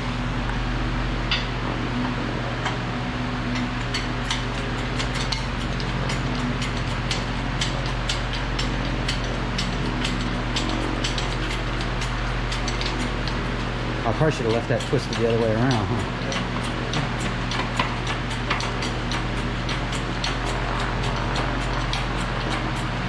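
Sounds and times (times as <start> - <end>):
fan running: 0.0 - 23.0.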